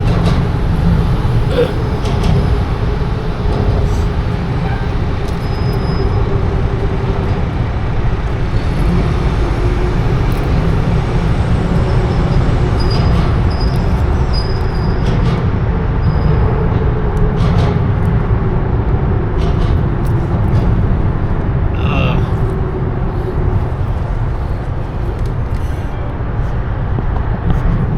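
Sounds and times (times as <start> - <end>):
city traffic rumble: 0.0 - 27.9.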